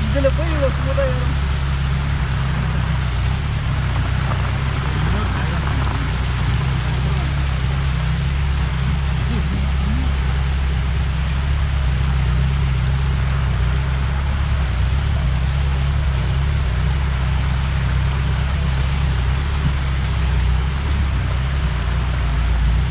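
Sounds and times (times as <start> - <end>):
deep rumble: 0.0 - 22.9
water rushing over rocks: 0.0 - 22.9.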